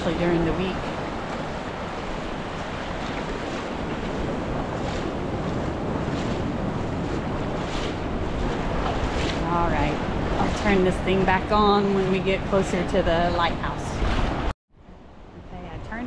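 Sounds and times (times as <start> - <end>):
ocean surf breaking on sand: 0.0 - 14.5
wind buffeting microphone: 0.0 - 16.0.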